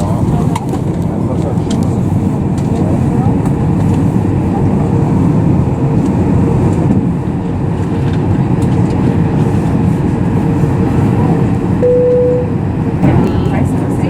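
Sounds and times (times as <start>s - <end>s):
airplane cabin rumble: 0.0s - 14.0s
constant hum: 0.0s - 14.0s.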